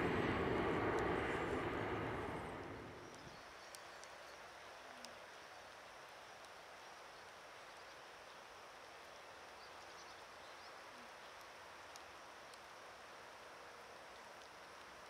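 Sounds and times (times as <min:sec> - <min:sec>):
faint rain hiss: 0:00.0 - 0:15.0.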